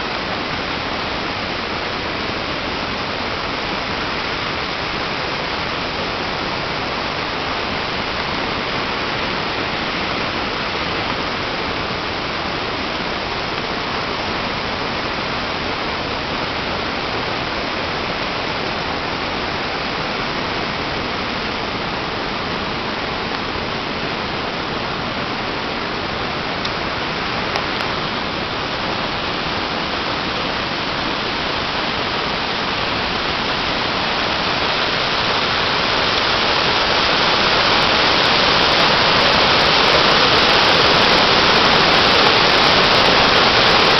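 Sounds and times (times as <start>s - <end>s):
floodwater rushing from spillway: 0.0s - 43.9s.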